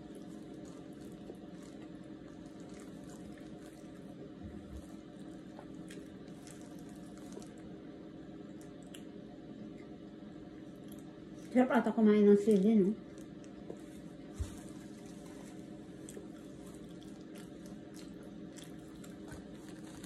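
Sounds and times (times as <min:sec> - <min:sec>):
wet chewing and mouth sounds: 0:00.0 - 0:10.0, 0:10.6 - 0:11.6, 0:12.5 - 0:20.0
steady low hum: 0:00.0 - 0:20.0.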